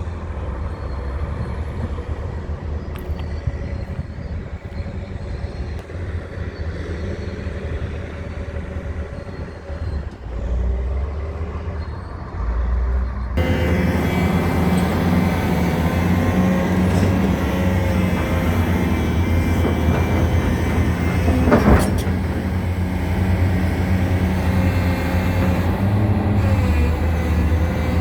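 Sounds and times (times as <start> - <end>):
excavator diesel engine rumbling: 0.0 - 28.0.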